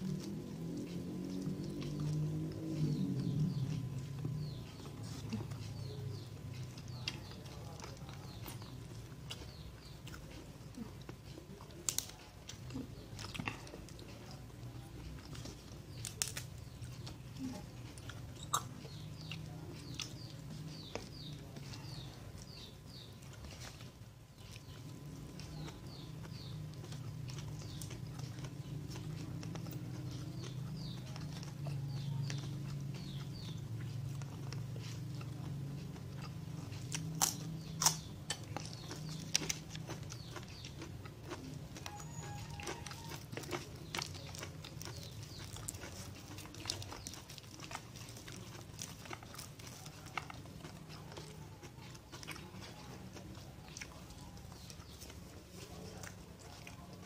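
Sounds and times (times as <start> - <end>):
birds chirping: 0.0 - 57.0
close chewing and eating: 0.0 - 57.0
low steady hum: 0.0 - 57.0.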